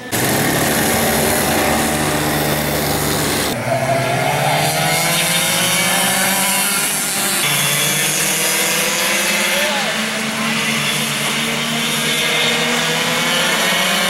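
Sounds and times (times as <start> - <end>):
go-kart engines buzzing: 0.0 - 14.0.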